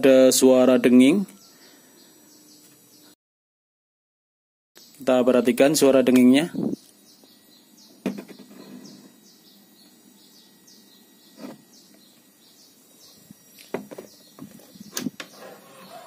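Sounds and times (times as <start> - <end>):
high-pitched power supply chirps: 0.0 - 3.2, 4.8 - 16.0.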